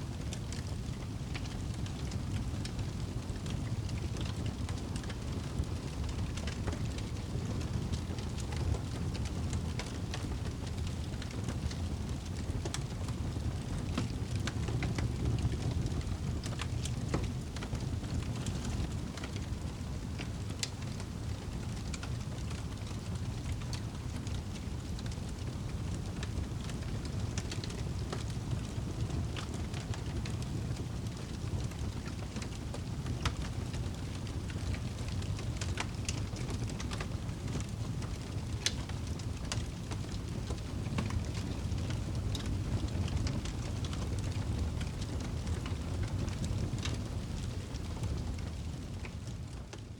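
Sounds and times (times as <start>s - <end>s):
low rushing fire: 0.0s - 49.9s
campfire crackles and pops: 0.3s - 49.6s.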